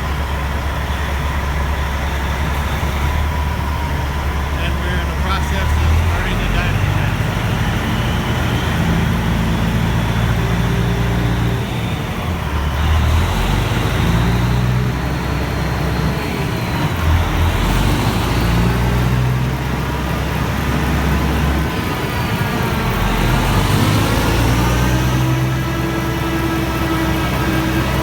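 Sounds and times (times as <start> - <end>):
diesel truck engine drone: 0.0 - 28.0.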